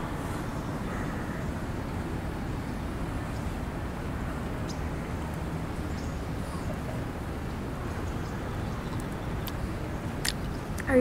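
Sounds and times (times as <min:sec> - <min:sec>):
low rumble of distant traffic: 0:00.0 - 0:11.0.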